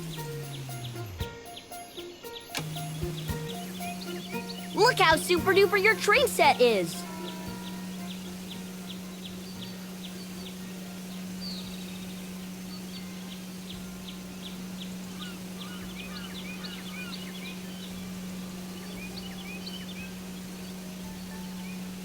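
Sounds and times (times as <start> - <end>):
steady low hum: 0.0 - 1.4, 2.0 - 22.0
birds chirping: 0.0 - 22.0.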